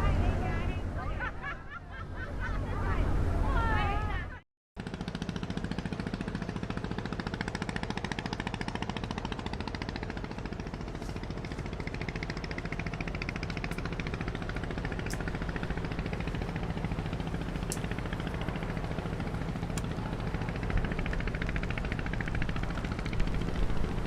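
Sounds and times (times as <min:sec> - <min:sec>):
boat diesel engine chugging: 0:00.0 - 0:24.0.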